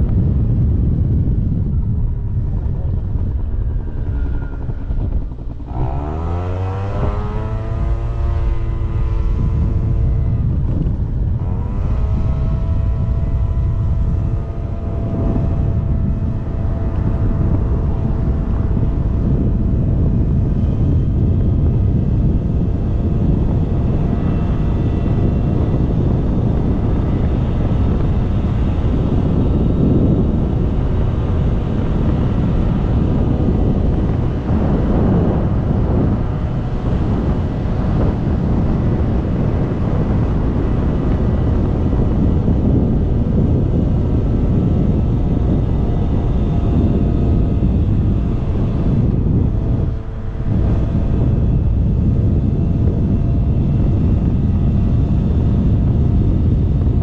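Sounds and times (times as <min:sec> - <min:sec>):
road rumble: 0:00.0 - 0:57.0
wind buffeting microphone: 0:00.0 - 0:57.0
scooter engine running: 0:00.2 - 0:57.0.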